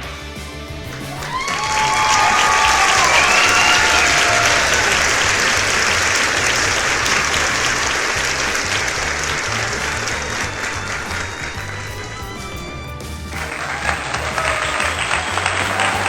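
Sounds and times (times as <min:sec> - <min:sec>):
crowd applauding: 0:00.7 - 0:16.0
crowd cheering and whooping: 0:00.9 - 0:12.6, 0:13.3 - 0:16.0.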